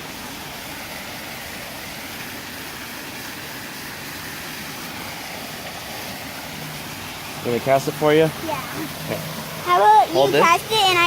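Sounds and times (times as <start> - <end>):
water rushing from waterfall: 0.0 - 11.0.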